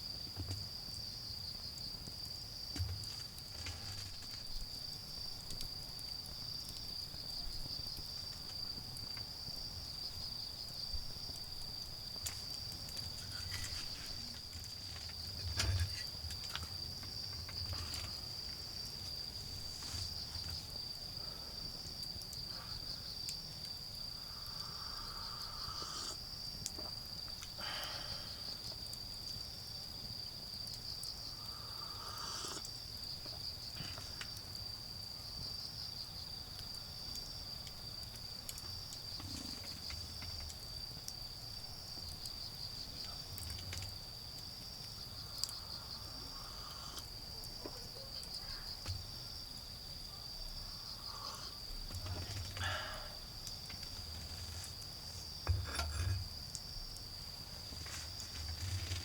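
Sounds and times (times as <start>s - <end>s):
insects trilling: 0.0s - 59.0s
wood fire crackling: 0.6s - 34.6s, 36.6s - 45.4s, 51.1s - 59.0s
pulsing insect chirp: 3.1s - 59.0s.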